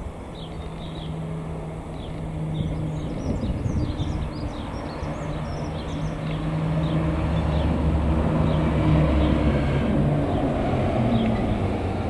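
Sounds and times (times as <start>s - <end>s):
small birds chirping: 0.0s - 9.5s, 10.2s - 11.8s
train rumble and hum: 0.0s - 12.0s.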